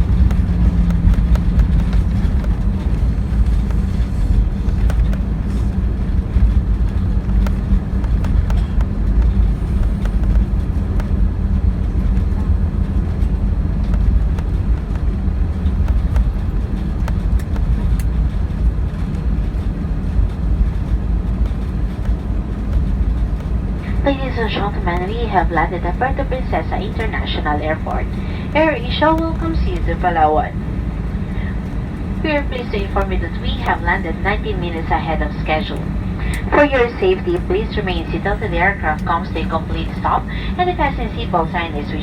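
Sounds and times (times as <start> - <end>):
deep rumble of wheels and engines: 0.0 - 42.0.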